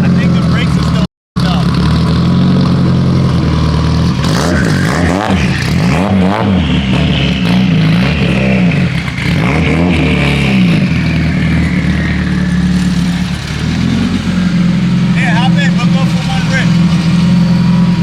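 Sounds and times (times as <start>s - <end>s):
car engine revving: 0.0s - 18.0s
high turbo whine: 0.0s - 18.0s.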